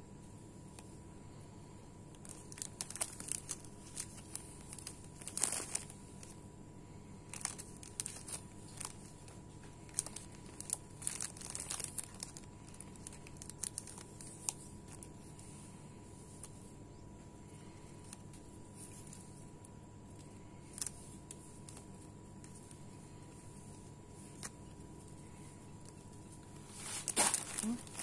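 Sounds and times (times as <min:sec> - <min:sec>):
cellophane crinkling: 0:02.0 - 0:06.4, 0:07.0 - 0:15.6, 0:17.6 - 0:28.0.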